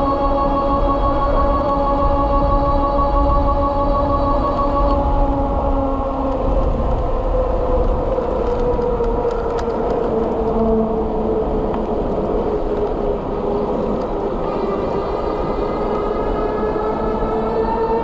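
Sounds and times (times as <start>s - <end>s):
e-bike motor whine: 0.0s - 18.0s
road rumble: 0.0s - 18.0s
wind: 0.0s - 18.0s.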